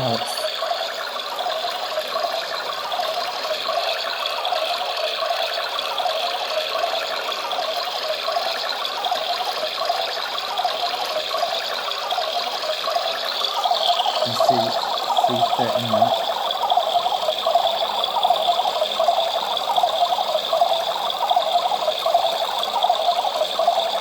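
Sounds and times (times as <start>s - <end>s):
toy washing machine motor whirring: 0.0s - 24.0s
water churning in drum: 0.0s - 24.0s.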